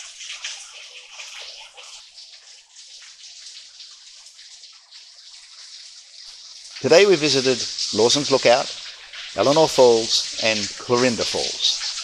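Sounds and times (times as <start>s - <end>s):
waterfall splashing on rock: 0.0s - 12.0s.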